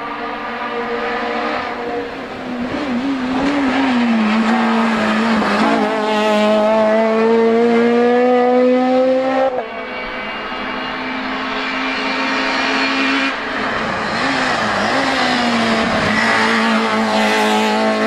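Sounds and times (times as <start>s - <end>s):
quieter race car engine: 0.0s - 18.0s
race car engine: 0.0s - 18.0s.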